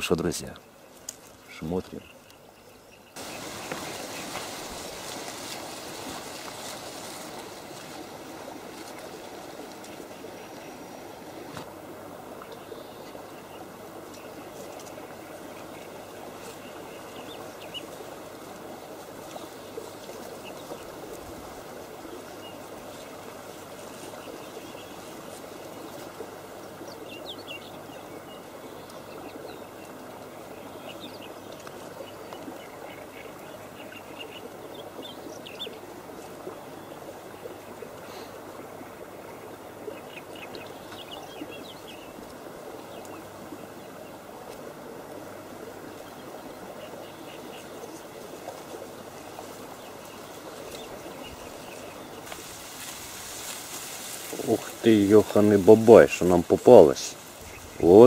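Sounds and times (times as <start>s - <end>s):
small birds chirping: 0.0s - 5.5s, 12.3s - 44.7s, 45.4s - 58.0s
steady outdoor hiss: 0.0s - 58.0s.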